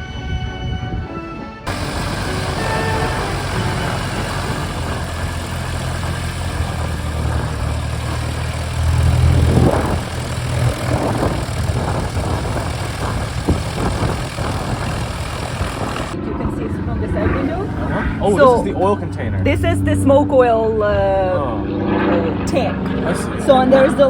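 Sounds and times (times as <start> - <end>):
aircraft engine running: 1.6 - 24.0.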